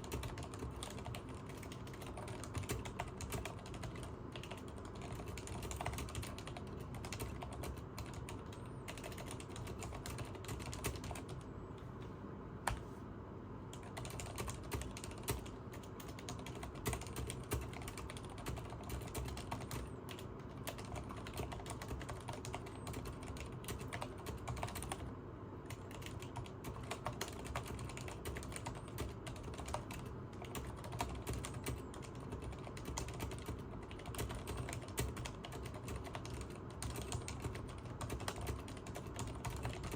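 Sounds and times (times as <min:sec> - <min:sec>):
typing on mechanical keyboard: 0:00.0 - 0:11.5, 0:13.7 - 0:39.9.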